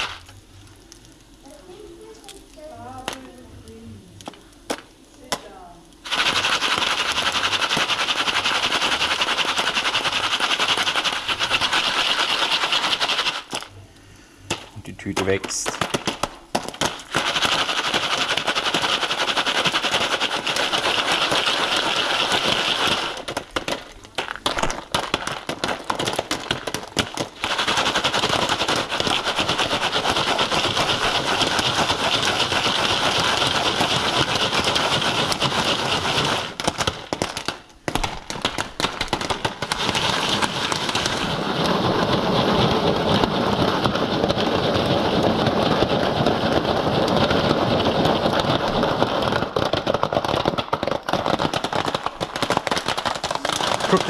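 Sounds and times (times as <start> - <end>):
popcorn popping in a pan: 0.0 - 54.0.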